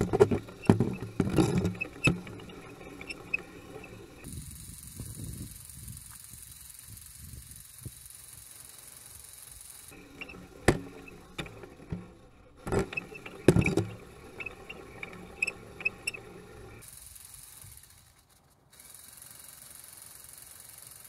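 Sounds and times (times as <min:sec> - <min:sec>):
sharp ticks: 0:00.0 - 0:11.8, 0:12.8 - 0:21.0
steady outdoor hiss: 0:00.0 - 0:21.0.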